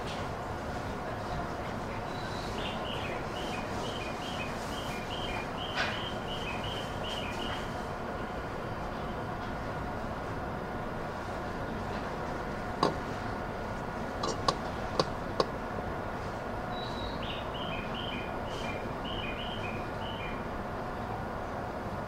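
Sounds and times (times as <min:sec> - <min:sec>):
electric train hum: 0:00.0 - 0:22.0.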